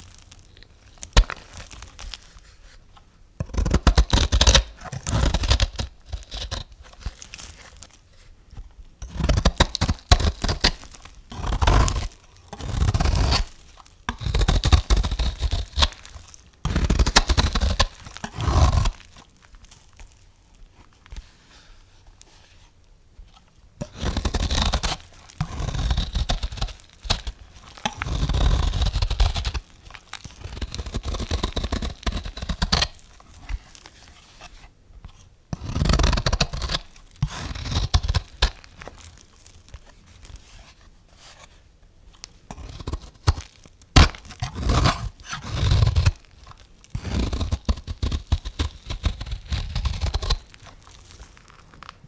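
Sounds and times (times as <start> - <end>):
blade cutting through soap: 3.4 - 8.2, 9.0 - 20.2, 23.8 - 34.6, 35.5 - 41.5, 42.5 - 51.7.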